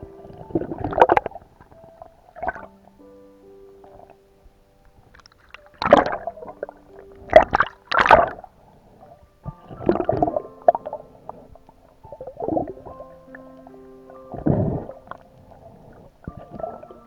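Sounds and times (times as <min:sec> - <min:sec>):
water sloshing and gurgling: 0:00.0 - 0:02.8, 0:03.8 - 0:17.0
faint background music: 0:00.0 - 0:17.0.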